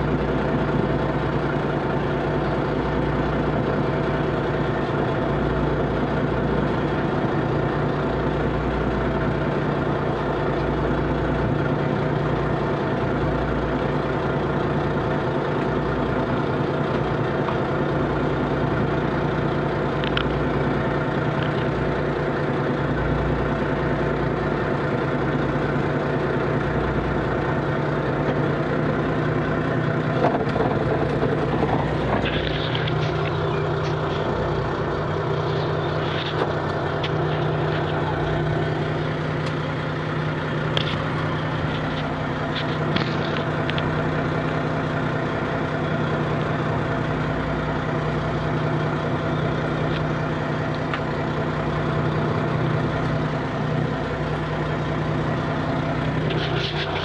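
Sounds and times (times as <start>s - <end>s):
boat engine and net hauler drone: 0.0s - 57.0s.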